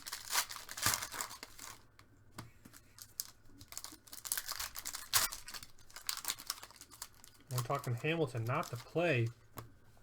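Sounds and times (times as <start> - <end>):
plastic wrapping crinkling and tearing: 0.0 - 2.0, 2.7 - 9.3.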